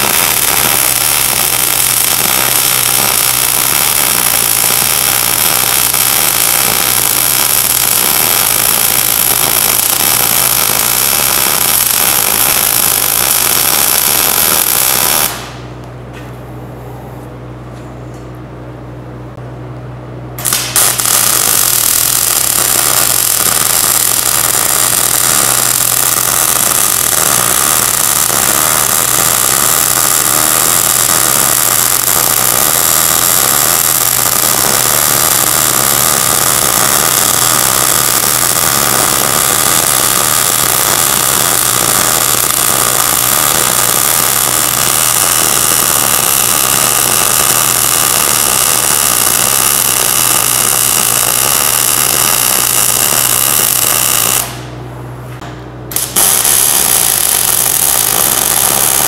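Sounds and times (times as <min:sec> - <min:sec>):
welding arc burning: 0:00.0 - 0:15.9, 0:20.4 - 0:54.8, 0:55.9 - 0:59.0.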